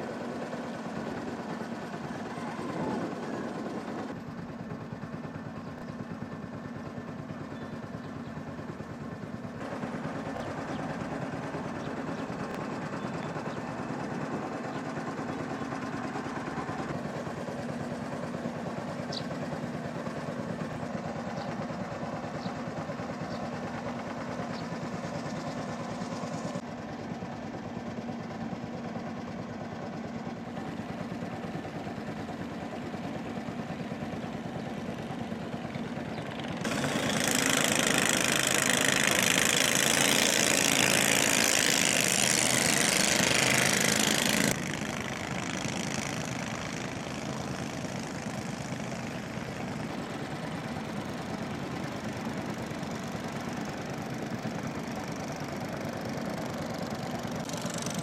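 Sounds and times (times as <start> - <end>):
boat motor droning: 0.0 - 58.0.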